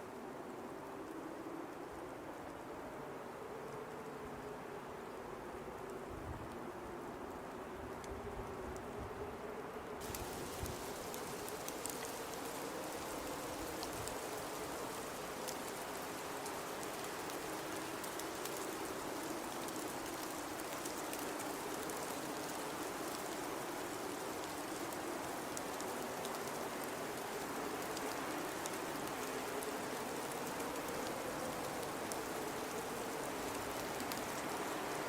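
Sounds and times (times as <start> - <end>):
blizzard wind hissing: 0.0 - 35.0.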